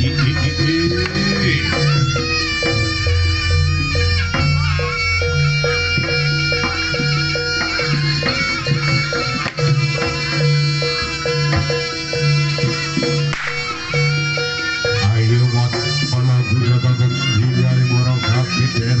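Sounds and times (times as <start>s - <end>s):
low drum and gong pulses: 0.0s - 16.4s
nasal reed melody: 0.0s - 19.0s
struck metallophone notes: 0.0s - 19.0s.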